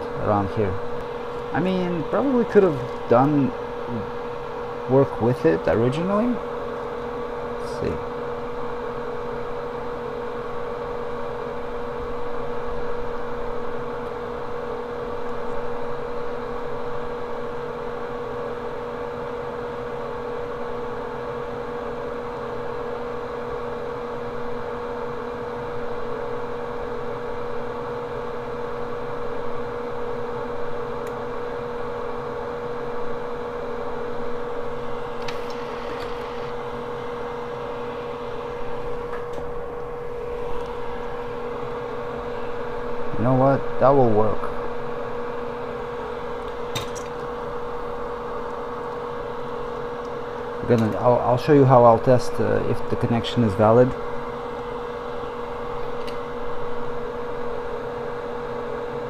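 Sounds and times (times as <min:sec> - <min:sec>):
electric fan motor whirring: 0:00.0 - 0:59.0.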